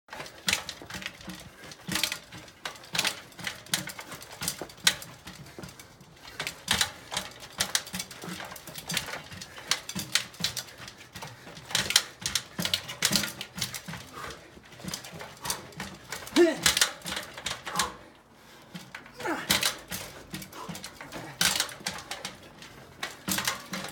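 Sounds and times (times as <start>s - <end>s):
bike knocking on stone steps: 0.1s - 23.9s.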